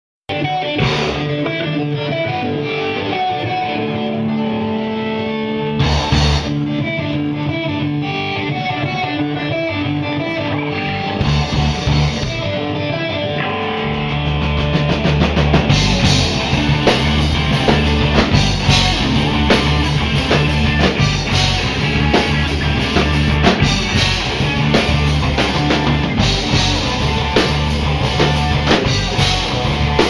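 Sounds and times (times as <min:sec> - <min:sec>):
rock band playing: 0:00.3 - 0:30.0.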